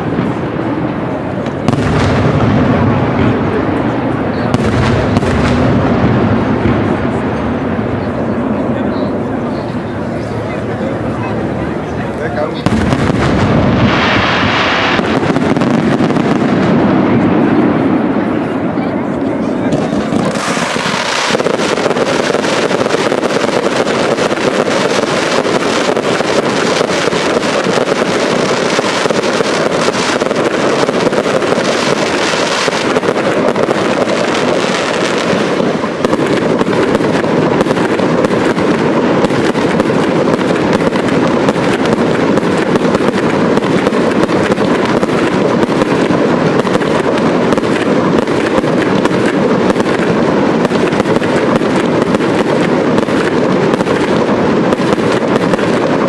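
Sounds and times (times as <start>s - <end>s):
fireworks banging: 0.0s - 56.0s.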